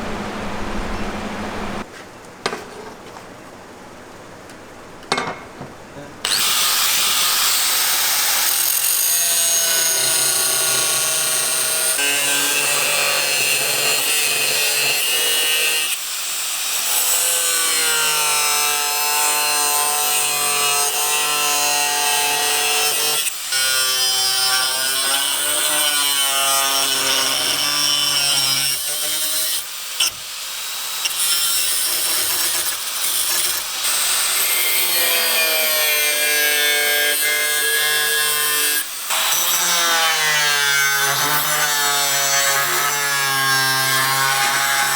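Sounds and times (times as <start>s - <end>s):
power tool grinding with whine: 6.3s - 44.9s.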